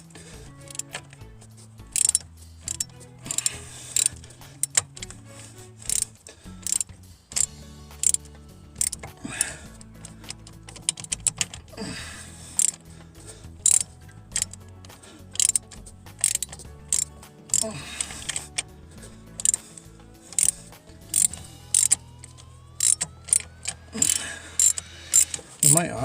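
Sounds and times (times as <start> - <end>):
faint background music: 0.0 - 26.0
socket ratchet clicking: 0.5 - 5.2, 5.8 - 11.8, 12.5 - 12.9, 13.6 - 18.7, 19.3 - 25.8.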